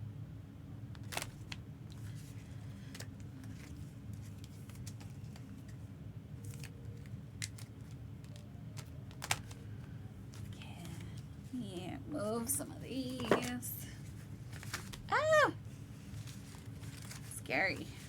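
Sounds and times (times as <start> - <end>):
steady low hum: 0.0 - 18.0
trading cards and packaging rustling: 0.9 - 18.0.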